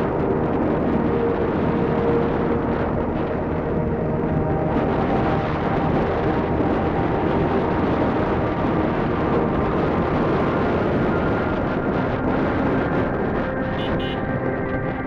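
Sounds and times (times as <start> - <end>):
wind and tyre rush: 0.0 - 15.0.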